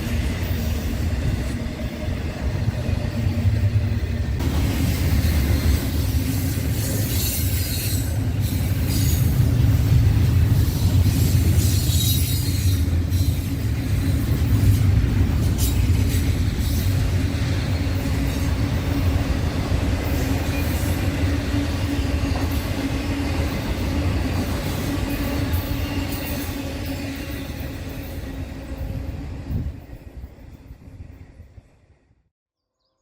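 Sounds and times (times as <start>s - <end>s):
freight train rumbling past: 0.0s - 32.1s.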